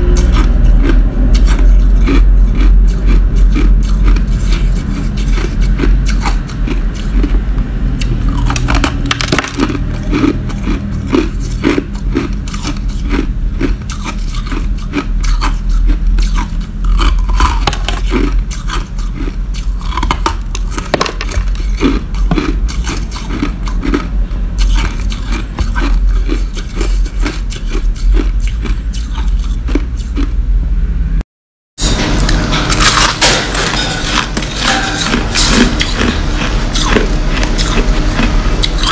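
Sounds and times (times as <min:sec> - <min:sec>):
chewing crushed ice: 0:00.0 - 0:07.4, 0:08.0 - 0:30.4, 0:32.2 - 0:38.9.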